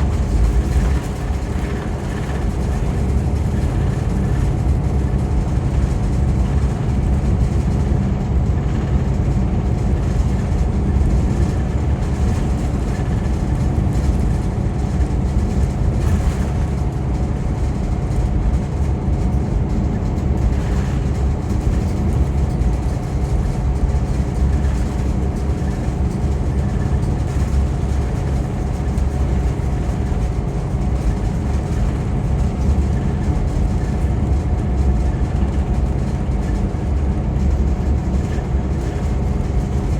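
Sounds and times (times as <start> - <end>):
coach engine drone: 0.0 - 39.9.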